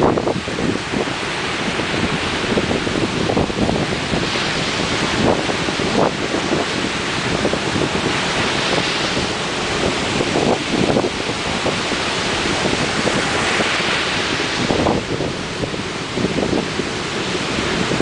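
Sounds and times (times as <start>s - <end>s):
waves breaking ashore: 0.0s - 18.0s
wind buffeting microphone: 0.0s - 18.0s.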